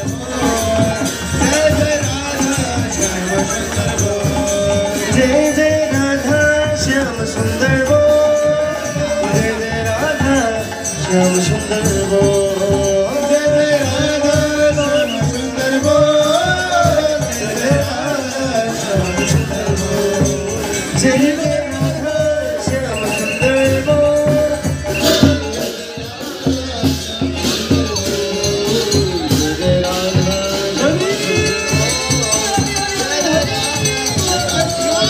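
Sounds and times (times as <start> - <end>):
jingling percussion beat: 0.0 - 35.0.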